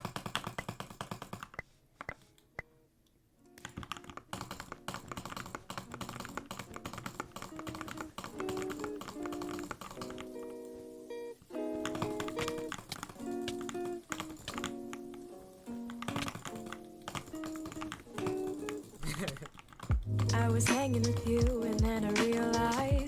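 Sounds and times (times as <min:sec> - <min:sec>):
fast typing on mechanical keyboard: 0:00.0 - 0:02.1, 0:03.6 - 0:10.4, 0:11.8 - 0:15.2, 0:15.9 - 0:23.0.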